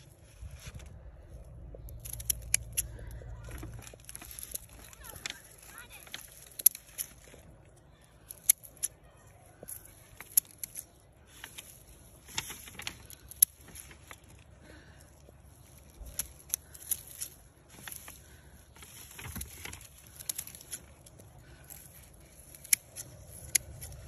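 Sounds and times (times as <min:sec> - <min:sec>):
plants rustling: 0:00.0 - 0:24.0
garden shears snipping stems: 0:01.8 - 0:07.4, 0:09.6 - 0:24.0.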